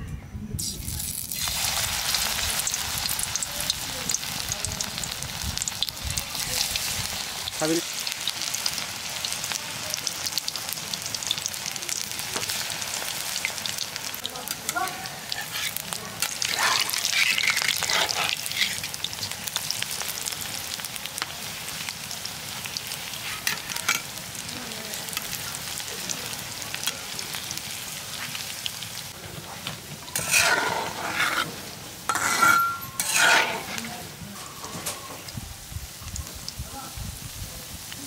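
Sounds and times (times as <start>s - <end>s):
food deep-frying in oil: 0.6s - 38.0s.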